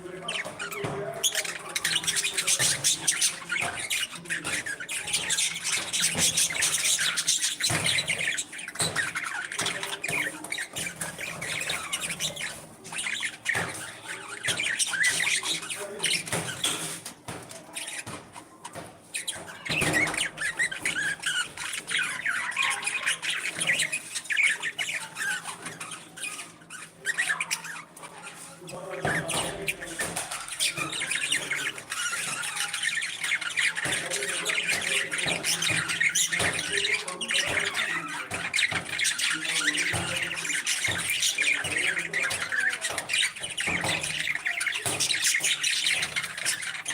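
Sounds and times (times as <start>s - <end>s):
parrots chattering and squawking: 0.0s - 46.9s.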